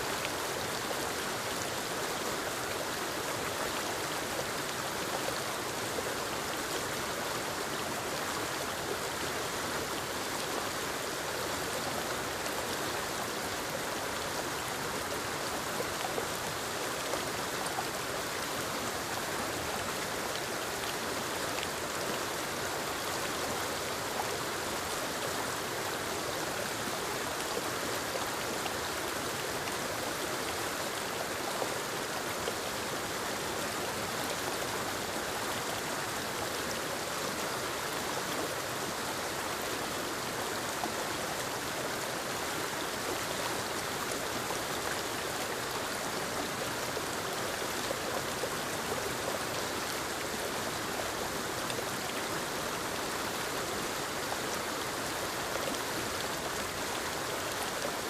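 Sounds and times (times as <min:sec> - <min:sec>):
waterfall cascading over rocks: 0:00.0 - 0:58.0.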